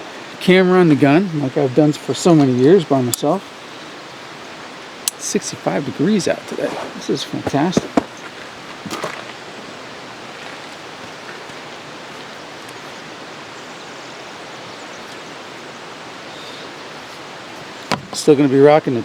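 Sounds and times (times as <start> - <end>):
outdoor ambient rushing noise: 0.0 - 19.0.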